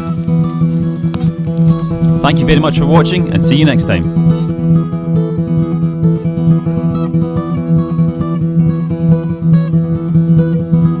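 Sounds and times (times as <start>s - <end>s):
plucked string instrument music: 0.0s - 11.0s.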